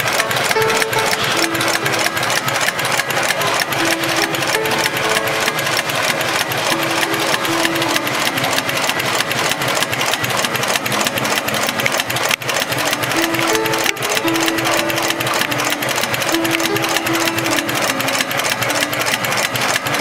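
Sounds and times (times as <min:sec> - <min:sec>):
sewing machine stitching: 0:00.0 - 0:20.0.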